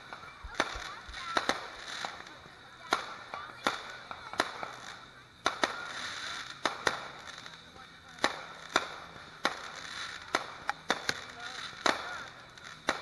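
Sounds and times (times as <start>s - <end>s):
fireworks shells bursting: 0.0s - 13.0s.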